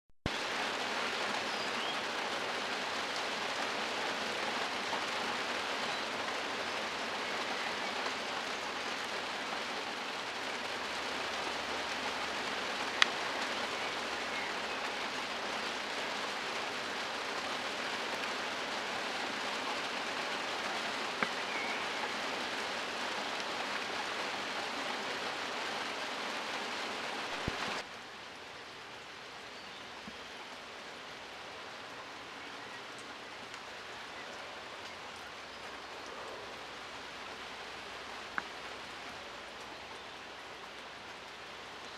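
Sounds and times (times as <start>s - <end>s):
steady rain falling: 0.2s - 41.9s.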